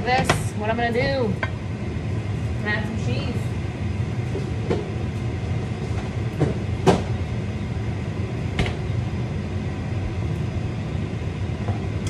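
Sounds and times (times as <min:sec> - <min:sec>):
kitchen fan running: 0:00.0 - 0:12.0.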